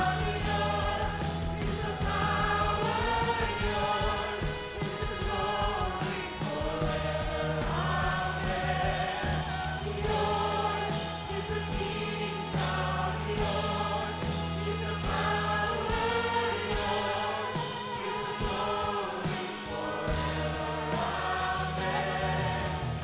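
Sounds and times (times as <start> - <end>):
choir singing a slow song: 0.0 - 23.0.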